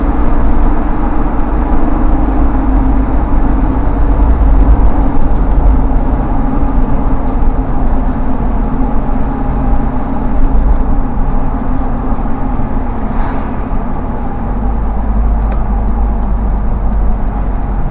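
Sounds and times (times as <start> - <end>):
road and drivetrain rumble: 0.0 - 17.9.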